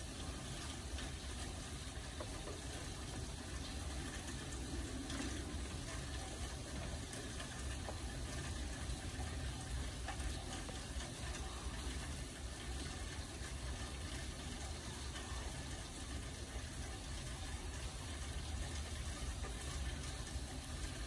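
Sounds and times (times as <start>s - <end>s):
raindrop ticks: 0.0s - 21.0s
steady rain hiss: 0.0s - 21.0s.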